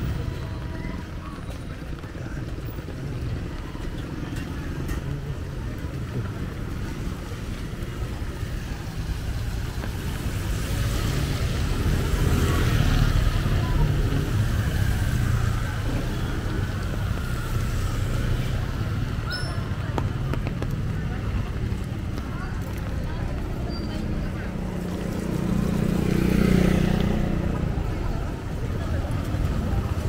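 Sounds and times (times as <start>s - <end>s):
traffic rumble on wet road: 0.0s - 30.0s
motorcycle passing: 5.7s - 30.0s.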